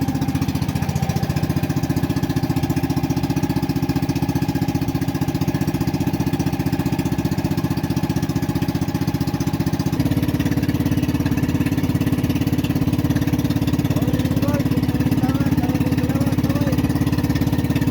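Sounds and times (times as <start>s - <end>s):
small boat engine running: 0.0s - 17.9s.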